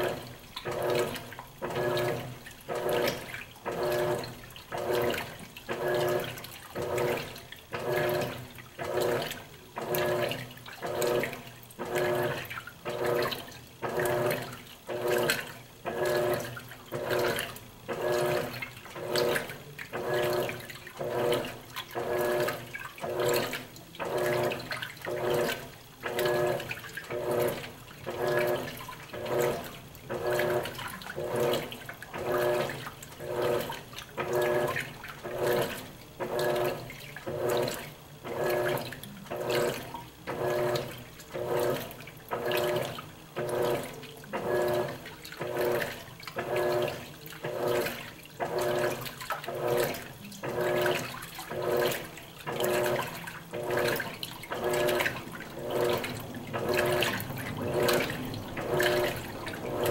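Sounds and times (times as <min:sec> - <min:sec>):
motor hum: 0:00.0 - 0:59.9
washing machine agitating laundry: 0:00.0 - 0:59.9
water sloshing: 0:00.0 - 0:59.9.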